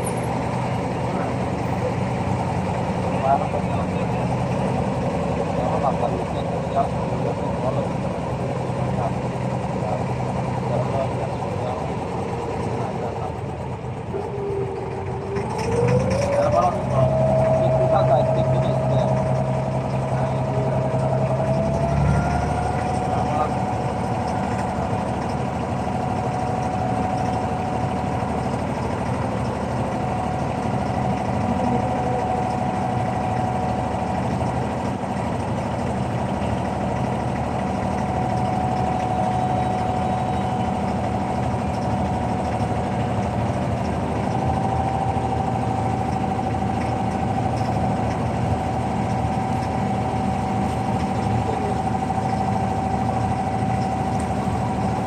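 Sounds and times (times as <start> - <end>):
boat diesel engine drone: 0.0 - 55.0
constant whine: 0.0 - 55.0.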